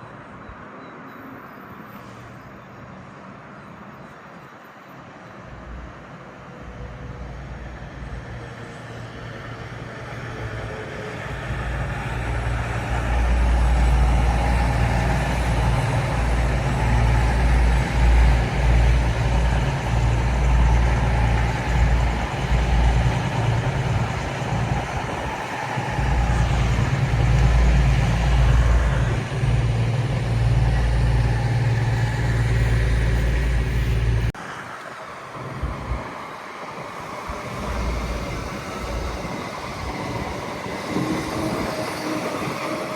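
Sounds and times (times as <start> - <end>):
diesel train engine rumbling: 1.4 - 42.9.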